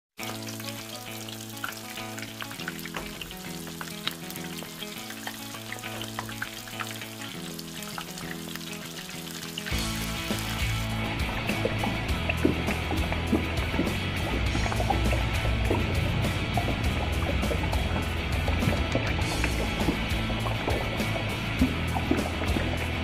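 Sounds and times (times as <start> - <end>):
background music with held chords: 0.2 - 23.0
food deep-frying in hot oil: 0.2 - 23.0.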